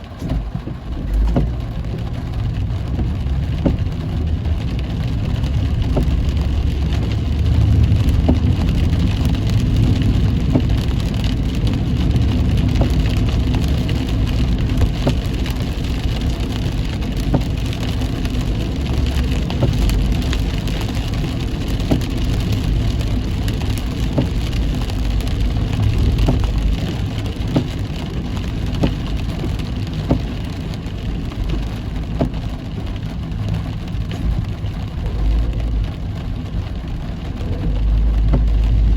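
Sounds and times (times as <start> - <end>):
heavy rain pattering on car: 0.0 - 38.9
road and engine rumble: 0.0 - 38.9.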